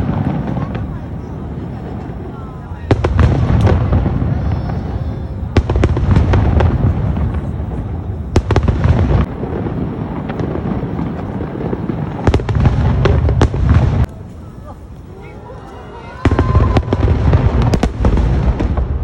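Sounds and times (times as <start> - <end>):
fireworks booming: 0.0 - 15.3, 16.0 - 19.0
fireworks cracking: 0.0 - 19.0.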